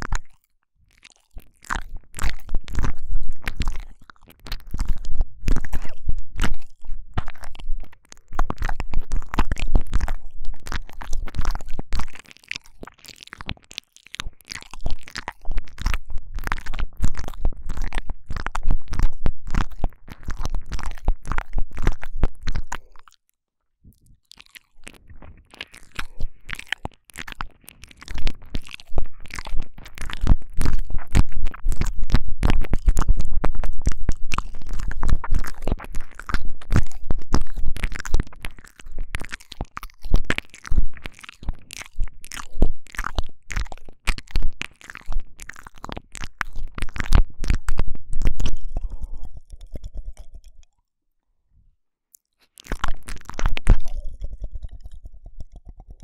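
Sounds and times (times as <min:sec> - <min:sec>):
wet mouth clicking and smacking: 0:00.0 - 0:50.9, 0:52.1 - 0:56.0.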